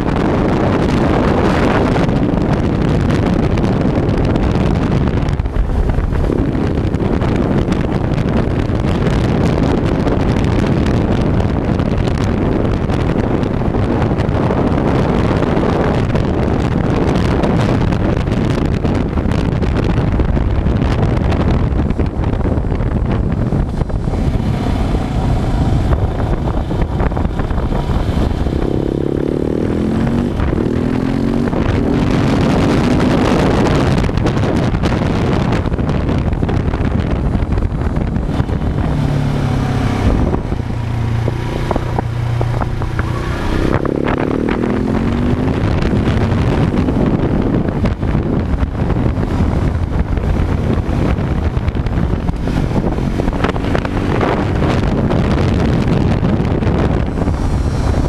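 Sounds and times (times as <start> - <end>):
motorcycle engine revving: 0.0 - 58.0
wind buffeting microphone: 0.0 - 58.0.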